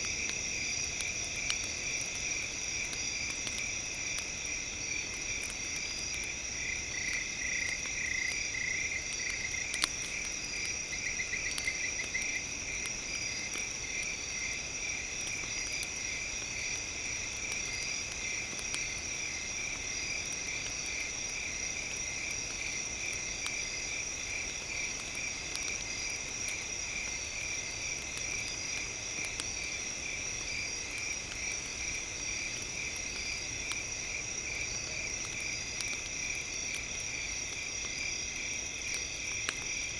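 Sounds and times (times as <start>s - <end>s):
campfire crackling: 0.0s - 39.9s
insects trilling: 0.0s - 39.9s.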